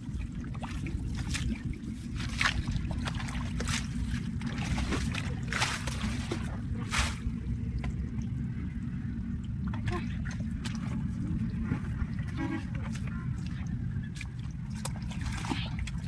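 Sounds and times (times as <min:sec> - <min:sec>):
steady low rumble: 0:00.0 - 0:16.0
water splashing and trickling: 0:00.0 - 0:16.0.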